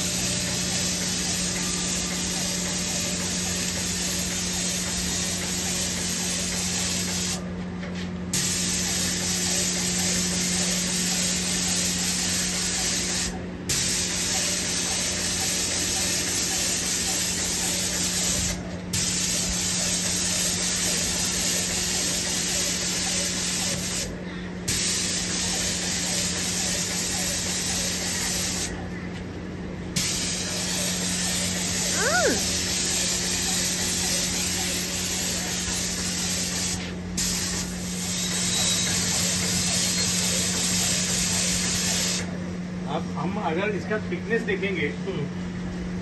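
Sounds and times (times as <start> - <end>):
putty sprayer gun hissing: 0.0 - 7.4, 8.3 - 24.1, 24.7 - 28.7, 30.0 - 42.3
steady low hum: 0.0 - 46.0.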